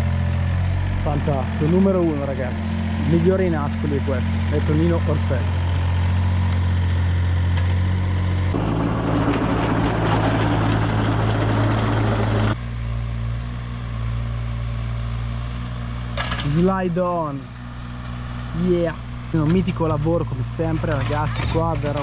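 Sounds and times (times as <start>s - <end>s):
excavator diesel engine running: 0.0s - 12.6s, 16.5s - 22.0s.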